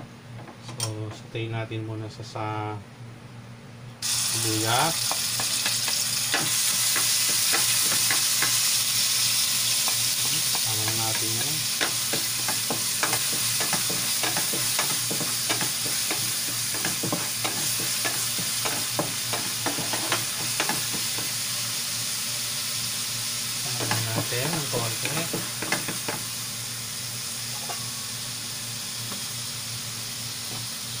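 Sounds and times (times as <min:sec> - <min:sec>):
onion and garlic sizzling in oil: 0:04.0 - 0:31.0.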